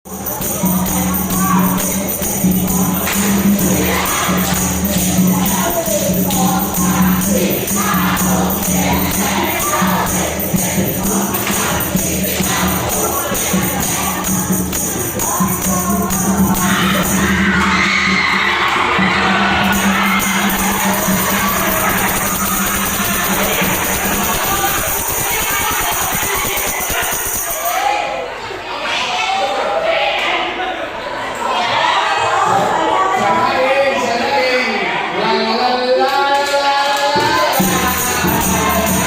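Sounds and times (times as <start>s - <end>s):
voices chanting in unison: 0.4s - 24.7s, 29.4s - 39.0s.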